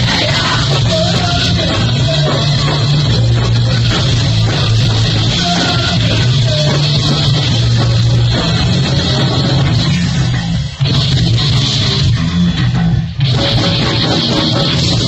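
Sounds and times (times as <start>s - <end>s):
electric guitars: 0.0s - 15.0s
live rock band playing: 0.0s - 15.0s
pounding drum kit: 0.0s - 15.0s.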